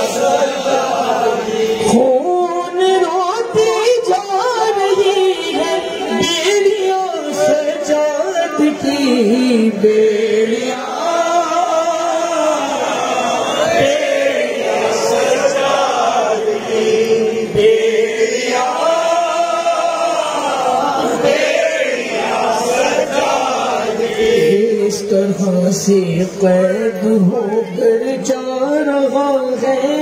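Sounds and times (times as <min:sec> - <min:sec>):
men chanting a mourning lament: 0:00.0 - 0:30.0.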